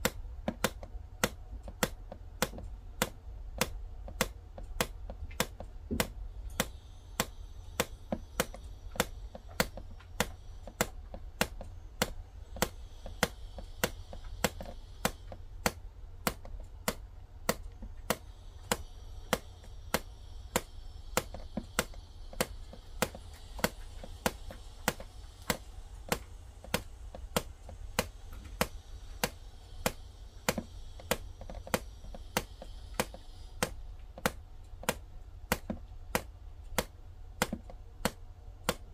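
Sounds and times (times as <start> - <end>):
sharp clicks: 0.0 - 38.9
steady low rumble: 0.0 - 38.9.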